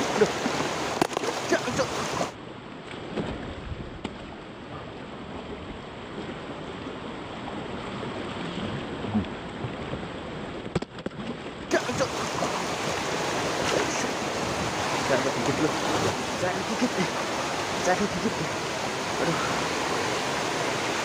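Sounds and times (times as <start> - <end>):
stream water splashing: 0.0 - 21.0.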